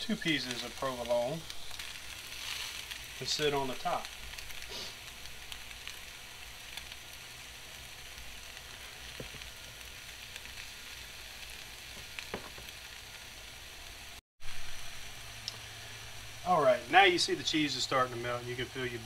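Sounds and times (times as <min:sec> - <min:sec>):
food sizzling on a griddle: 0:00.0 - 0:19.0.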